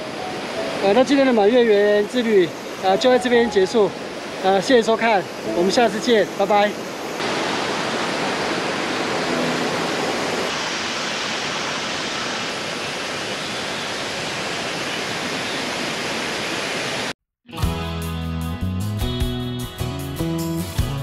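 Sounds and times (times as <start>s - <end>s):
mountain creek water flowing: 0.0s - 17.1s.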